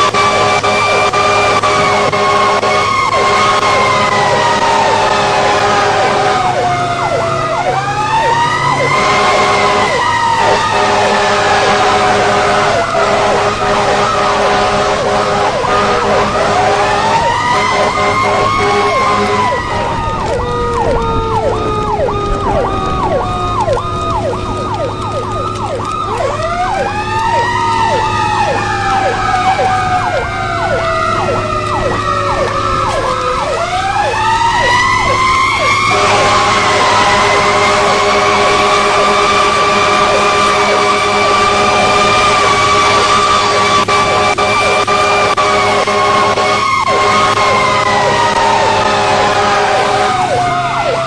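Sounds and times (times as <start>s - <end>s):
siren fast yelp: 0.0s - 51.0s
siren wailing: 0.0s - 51.0s.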